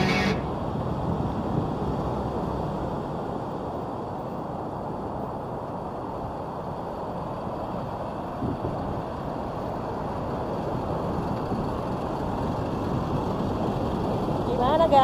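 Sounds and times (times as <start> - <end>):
beach surf: 0.0 - 15.0
suv driving on sand: 0.0 - 15.0.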